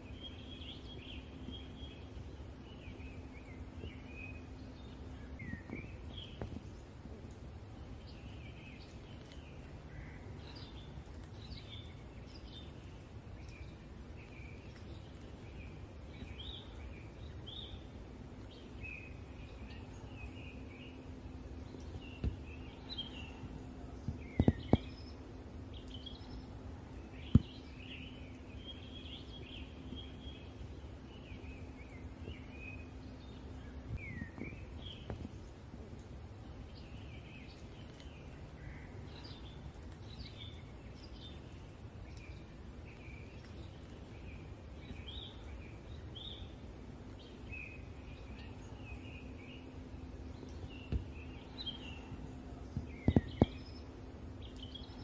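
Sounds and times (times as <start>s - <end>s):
faint steady hum: 0.0s - 55.0s
small songbirds chirping: 0.0s - 55.0s.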